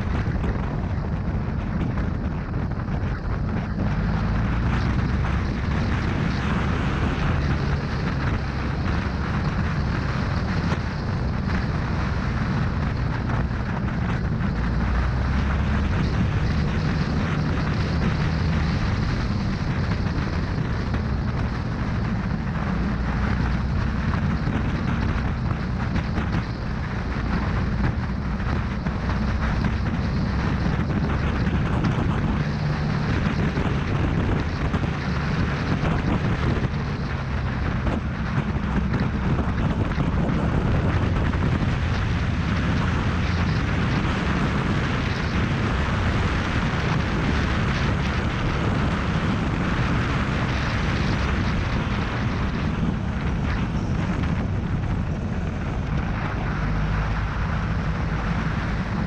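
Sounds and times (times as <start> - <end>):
motorcycle running: 0.0 - 59.0
wind rush on microphone: 0.0 - 59.0.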